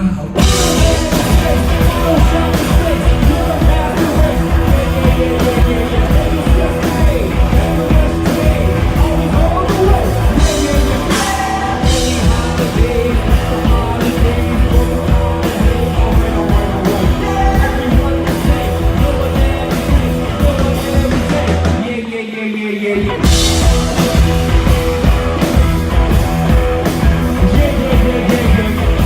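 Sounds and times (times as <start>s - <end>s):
rock band playing loud: 0.0s - 29.0s.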